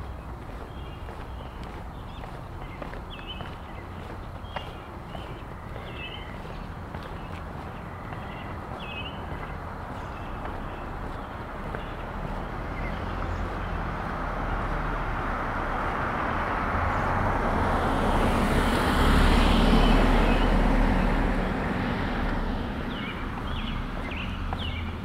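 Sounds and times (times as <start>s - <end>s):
car passing: 0.0s - 25.0s.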